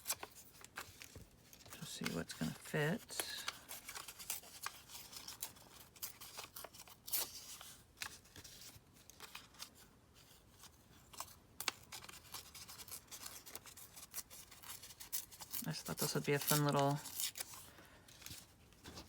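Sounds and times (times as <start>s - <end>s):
paper tearing and rustling: 0.0s - 19.0s.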